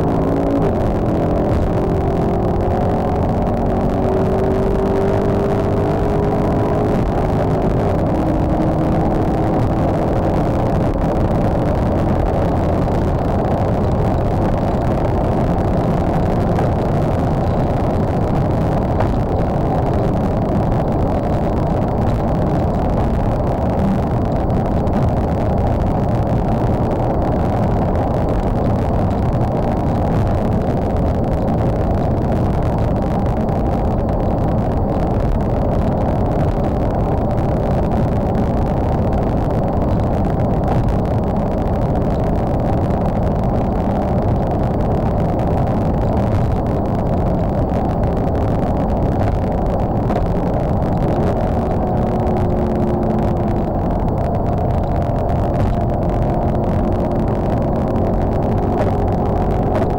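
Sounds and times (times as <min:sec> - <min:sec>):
car cruising interior road noise: 0:00.0 - 0:59.9.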